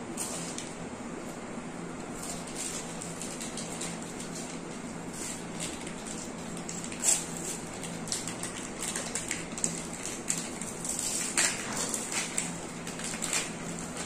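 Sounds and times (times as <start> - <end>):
plastic wrappers crinkling: 2.2 - 14.0.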